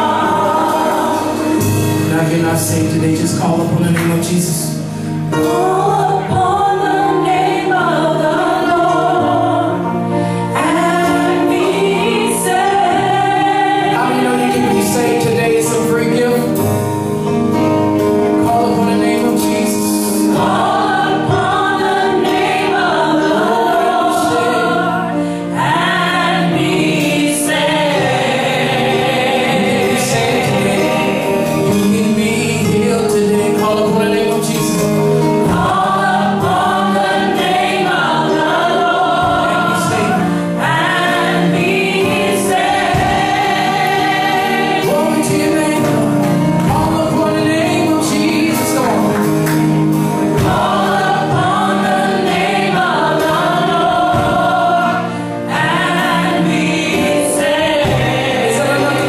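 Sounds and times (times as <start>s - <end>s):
choir singing: 0.0s - 3.8s, 5.2s - 59.0s
sustained instrumental chords: 0.0s - 59.0s.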